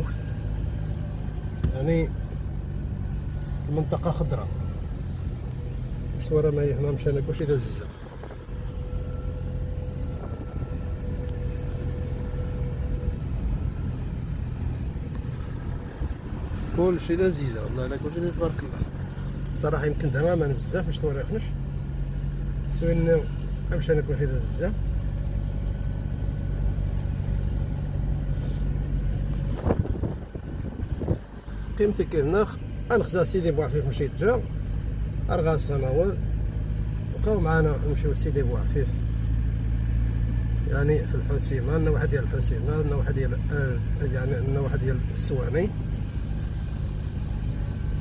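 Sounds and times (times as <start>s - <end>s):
faint steady whine: 0.0s - 48.0s
vehicle road and engine rumble: 0.0s - 48.0s.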